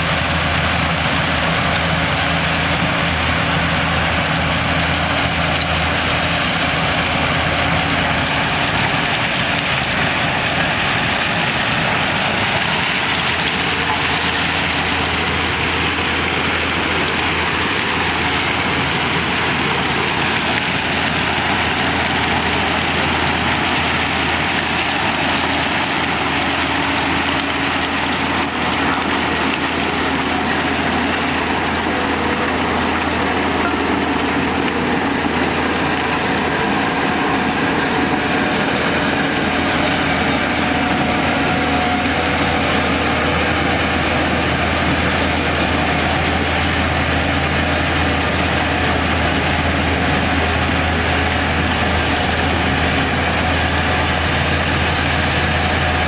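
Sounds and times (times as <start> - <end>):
heavy diesel machinery engine drone: 0.0 - 56.0.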